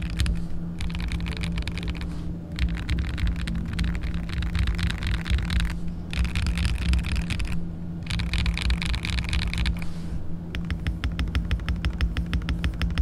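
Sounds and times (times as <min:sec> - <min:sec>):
mechanical keyboard typing: 0:00.0 - 0:09.8, 0:10.6 - 0:13.0
steady low background rumble: 0:00.0 - 0:13.0.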